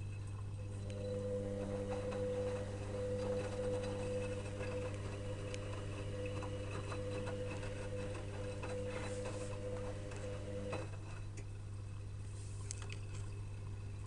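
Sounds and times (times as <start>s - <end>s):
washing machine motor whining: 0.0s - 12.0s.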